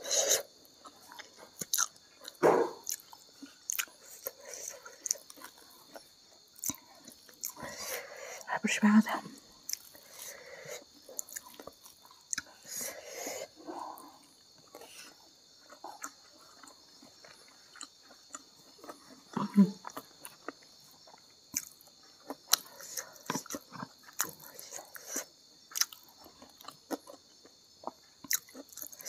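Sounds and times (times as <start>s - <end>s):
person chewing food: 0.0s - 8.5s, 9.4s - 29.0s.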